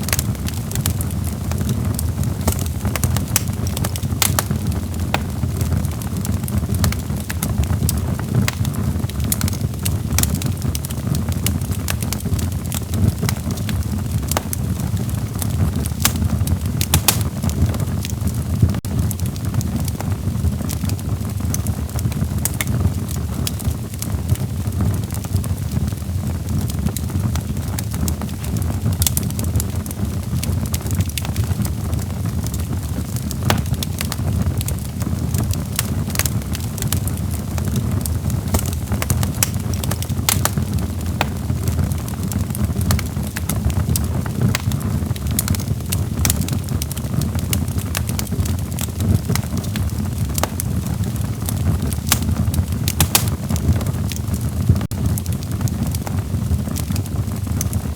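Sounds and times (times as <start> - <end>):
low rumble of flames: 0.0 - 57.9
wood crackles and pops: 0.0 - 57.9.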